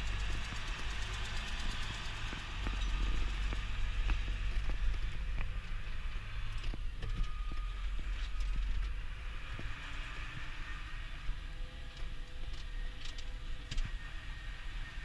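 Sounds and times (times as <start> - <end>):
diesel tractor engine rumble: 0.0 - 15.0.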